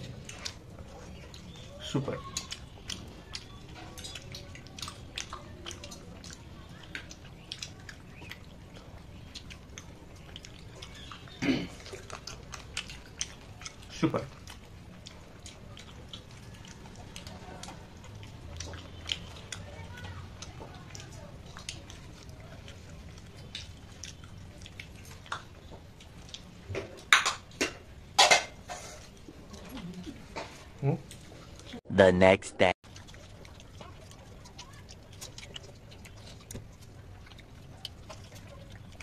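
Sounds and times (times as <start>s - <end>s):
mouth sound eating: 0.0s - 27.2s, 32.8s - 39.0s.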